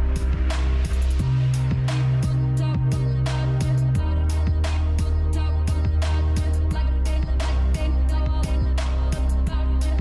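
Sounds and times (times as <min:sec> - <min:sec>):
music with heavy bass and drums: 0:00.0 - 0:10.0.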